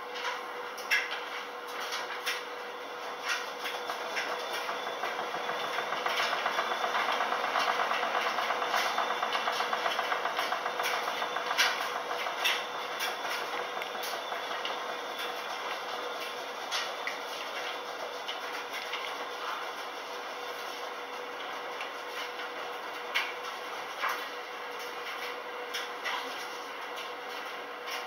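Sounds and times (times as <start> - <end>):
washing machine hum: 0.0 - 28.0
clothes and water sloshing in drum: 1.2 - 28.0.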